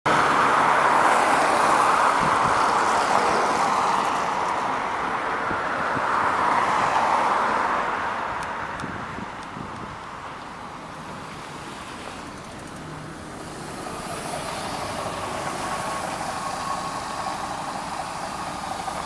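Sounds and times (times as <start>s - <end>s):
bus engine and road noise: 0.1s - 19.0s.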